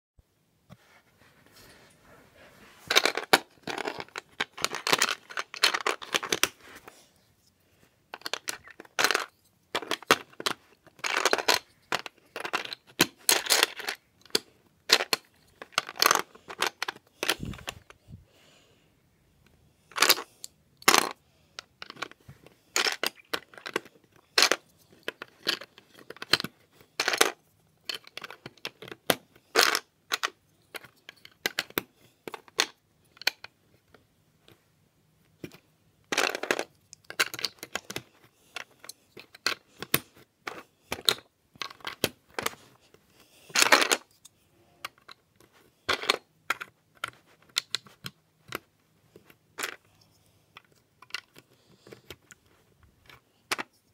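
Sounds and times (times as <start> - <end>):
plastic bricks clicking and clattering: 2.9 - 6.6, 8.1 - 18.0, 19.9 - 34.0, 35.4 - 42.6, 43.5 - 49.9, 50.5 - 52.4, 53.0 - 53.9.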